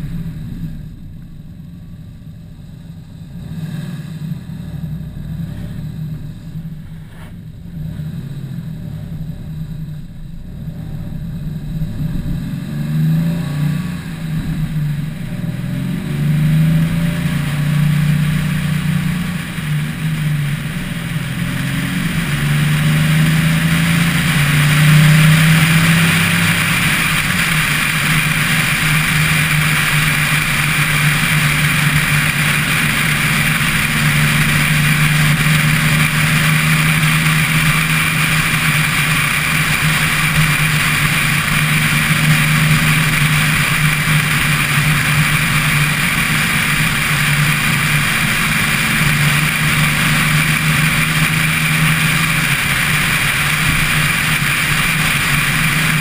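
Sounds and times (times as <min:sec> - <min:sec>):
car engine cruising: 0:00.0 - 0:56.0
road noise: 0:00.0 - 0:56.0.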